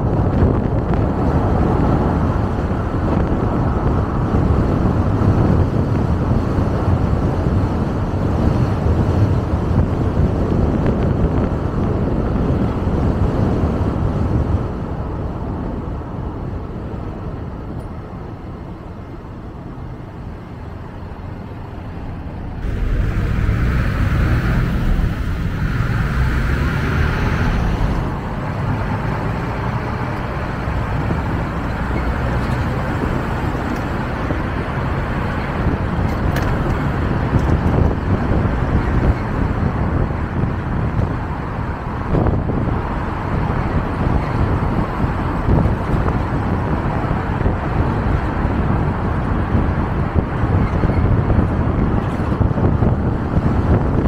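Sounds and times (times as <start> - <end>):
car tyre and engine rumble: 0.0 - 54.0
traffic noise: 0.0 - 54.0.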